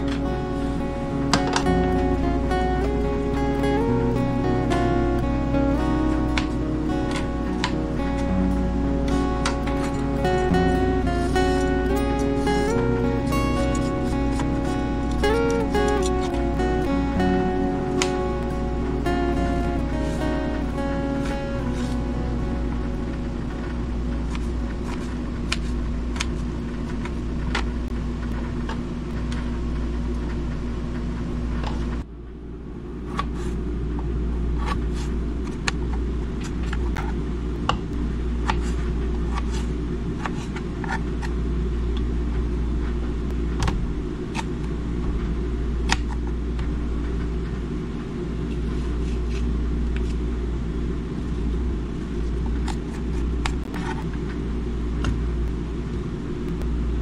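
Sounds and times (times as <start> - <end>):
low machine hum: 0.0 - 57.0.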